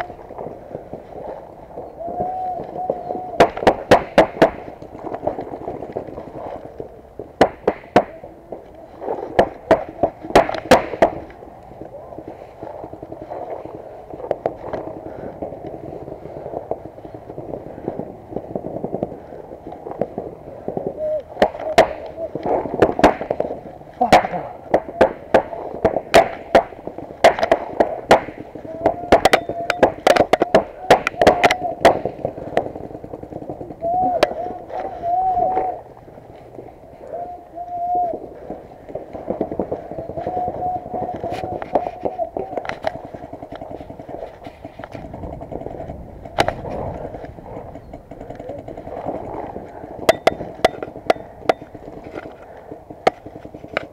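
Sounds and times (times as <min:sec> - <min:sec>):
paintball markers firing: 0:00.0 - 0:36.8, 0:38.1 - 0:53.9.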